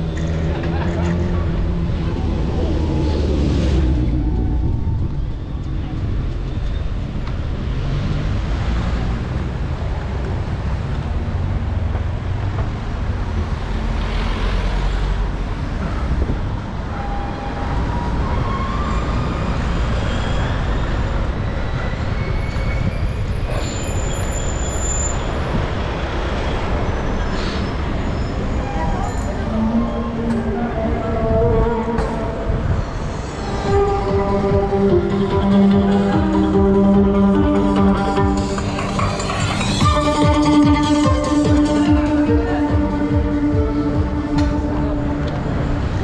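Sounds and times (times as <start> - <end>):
low traffic rumble: 0.0 - 46.0
vehicles passing: 0.0 - 46.0.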